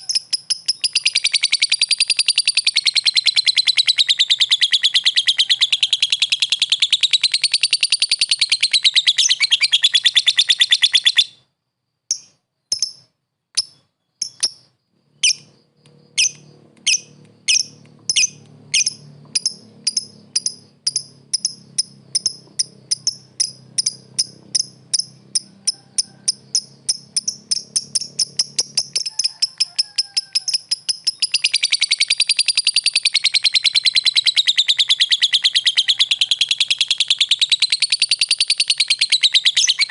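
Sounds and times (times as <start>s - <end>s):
lovebird chattering trill: 0.0s - 11.4s, 12.1s - 39.9s
lovebird sharp chirps: 0.0s - 11.5s, 12.1s - 39.9s.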